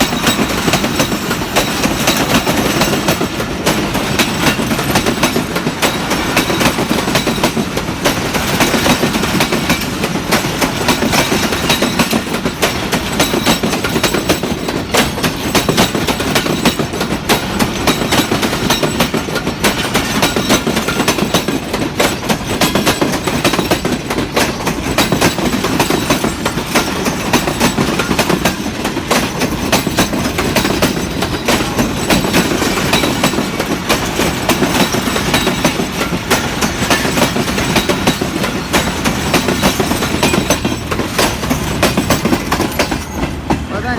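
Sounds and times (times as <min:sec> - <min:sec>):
train rumble: 0:00.0 - 0:43.9
wheels clattering over rails: 0:00.0 - 0:43.9.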